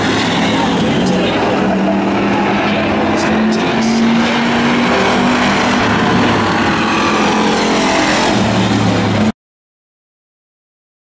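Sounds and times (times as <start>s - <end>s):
race car engines droning: 0.0s - 9.3s.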